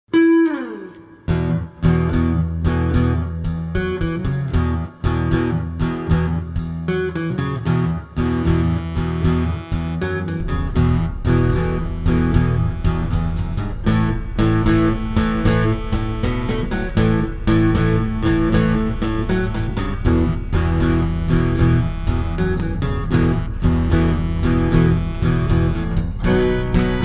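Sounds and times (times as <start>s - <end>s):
guitar background music: 0.1s - 27.0s
bass line: 1.3s - 27.0s.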